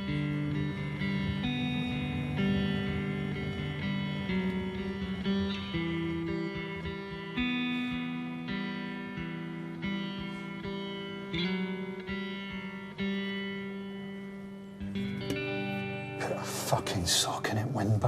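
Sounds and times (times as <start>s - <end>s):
slow guitar melody: 0.0s - 18.0s.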